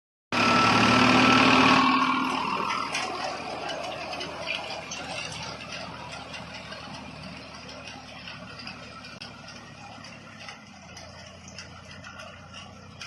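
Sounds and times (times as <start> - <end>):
digger machine running: 0.3 - 13.0.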